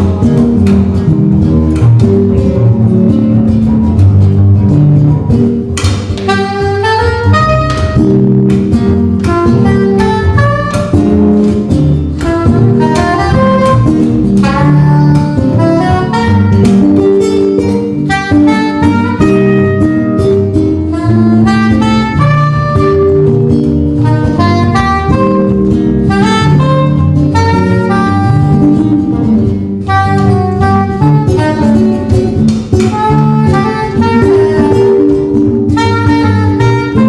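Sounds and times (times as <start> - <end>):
walking bass line: 0.0 - 37.0
band playing instrumental music: 5.7 - 37.0.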